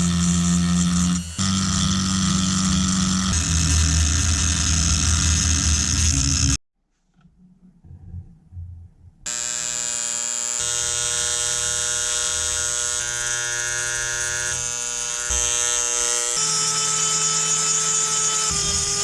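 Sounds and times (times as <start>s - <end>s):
power tool motor whining: 0.0s - 6.6s, 9.3s - 19.0s.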